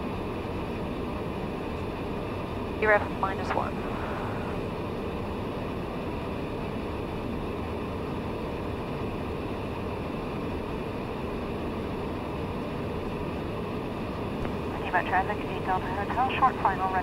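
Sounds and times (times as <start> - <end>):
turboprop cabin noise: 0.0 - 17.0.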